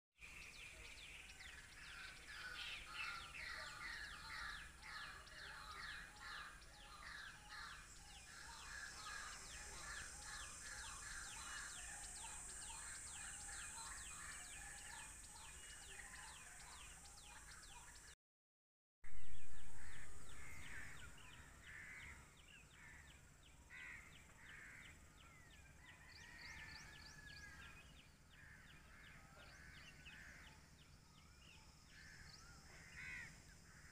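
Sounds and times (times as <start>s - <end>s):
birds calling: 0.2s - 18.2s, 19.6s - 33.9s.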